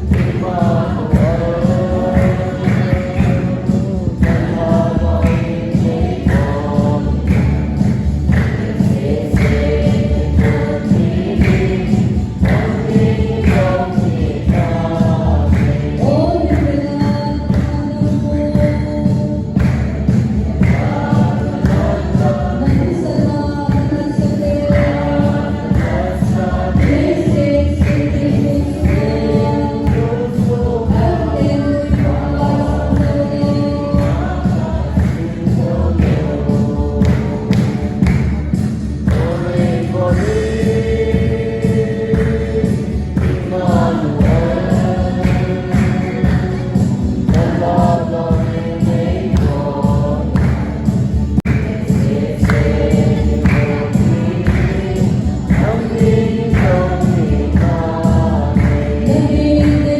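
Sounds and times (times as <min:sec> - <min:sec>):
choir singing gospel song: 0:00.0 - 0:59.9
steady beat: 0:00.0 - 0:59.9.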